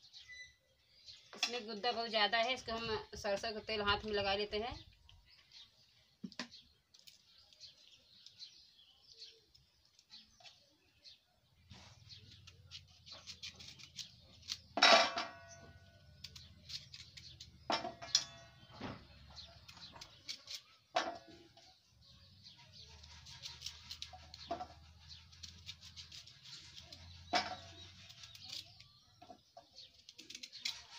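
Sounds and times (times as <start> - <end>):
small birds chirping: 0.0 - 14.8, 15.4 - 30.9.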